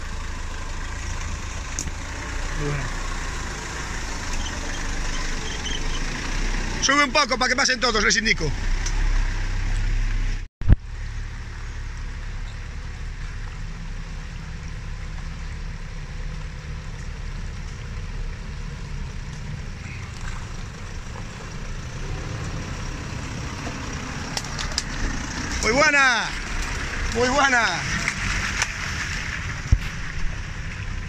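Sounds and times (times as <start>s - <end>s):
engine running at low revs: 0.0s - 7.2s, 8.3s - 31.0s.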